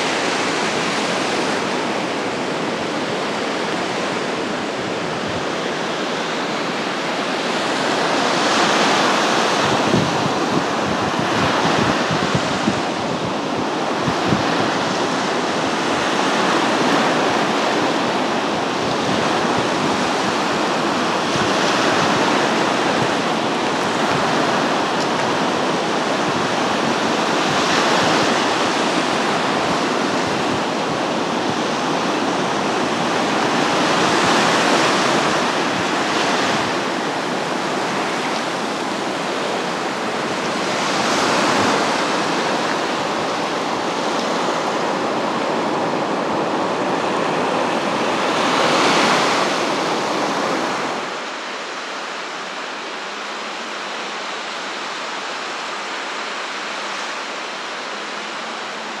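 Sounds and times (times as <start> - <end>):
surf washing up a beach: 0.0 - 59.0.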